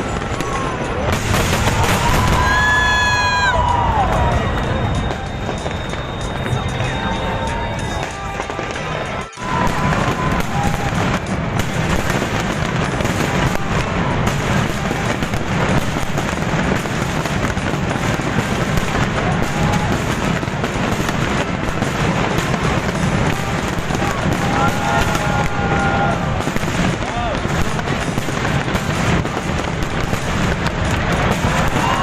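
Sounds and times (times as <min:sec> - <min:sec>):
fireworks bangs and crackle: 0:00.0 - 0:32.0.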